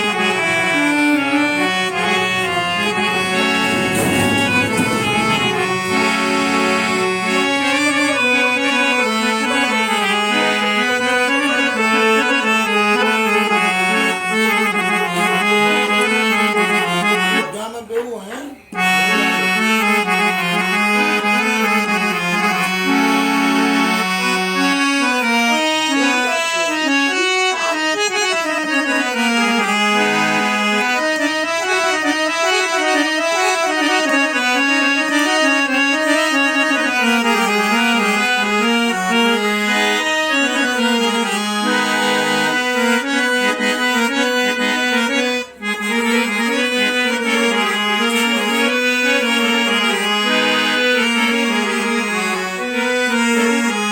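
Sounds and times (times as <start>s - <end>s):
harmonium melody over held notes: 0.0s - 53.9s.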